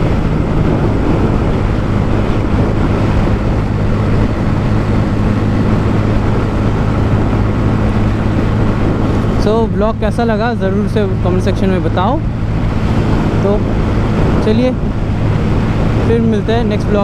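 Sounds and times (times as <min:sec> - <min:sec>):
motorcycle engine running: 0:00.0 - 0:17.0
wind on microphone: 0:00.0 - 0:17.0.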